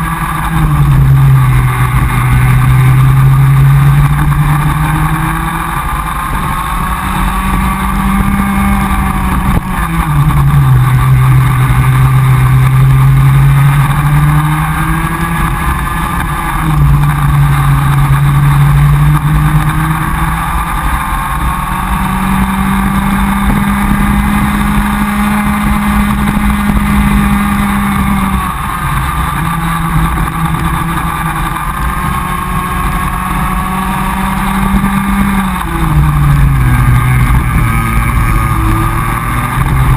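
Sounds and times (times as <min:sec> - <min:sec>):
kart engine running flat out: 0:00.0 - 0:39.9.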